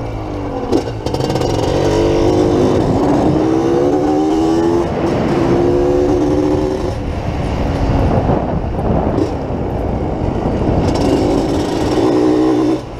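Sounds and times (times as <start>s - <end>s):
two-stroke motorcycle engine running: 0.0s - 12.9s.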